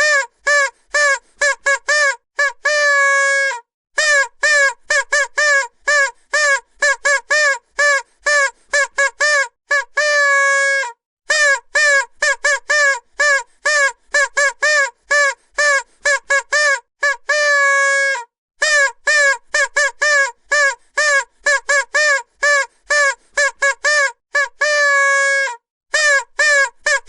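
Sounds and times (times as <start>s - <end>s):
vuvuzela blasts: 0.0s - 27.0s.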